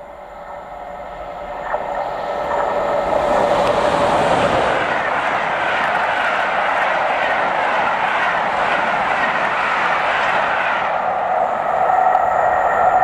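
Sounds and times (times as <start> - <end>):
electric locomotive hum: 0.0 - 13.0
train wheels rushing on rail: 0.0 - 13.0.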